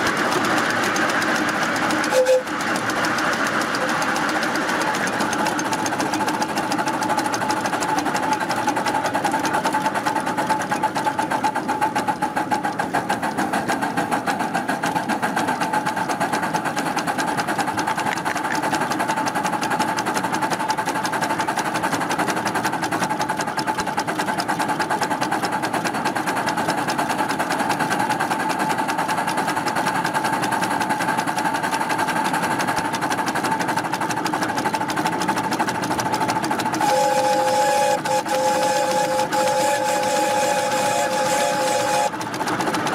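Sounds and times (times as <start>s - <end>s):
steam locomotive exhaust beat: 0.0s - 42.9s.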